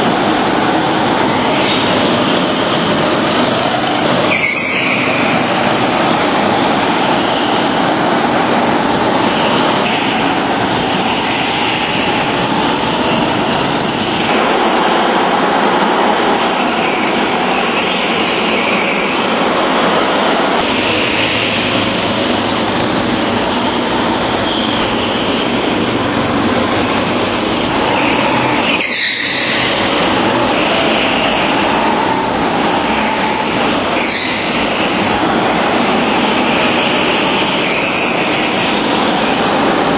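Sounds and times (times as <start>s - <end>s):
go-kart engines revving: 0.0s - 39.9s.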